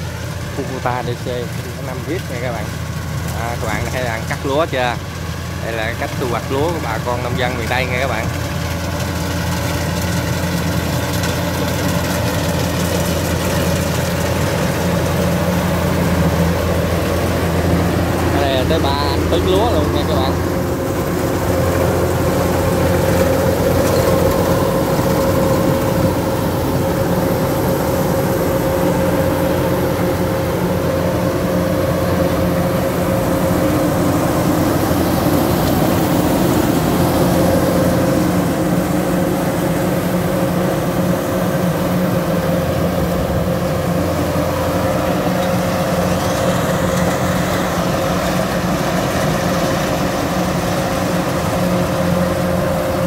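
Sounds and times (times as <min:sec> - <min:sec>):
combine harvester engine rumble: 0:00.0 - 0:53.0
steady whine: 0:00.0 - 0:53.0.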